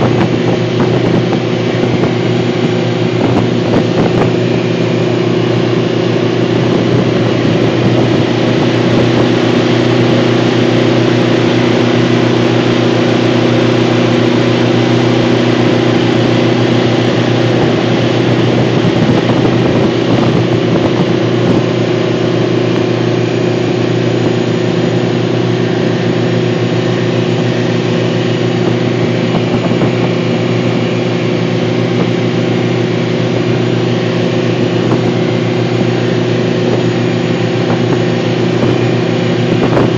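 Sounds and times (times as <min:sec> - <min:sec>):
boat engine droning: 0:00.0 - 0:39.9
water rushing: 0:00.0 - 0:39.9
wind: 0:00.0 - 0:39.9.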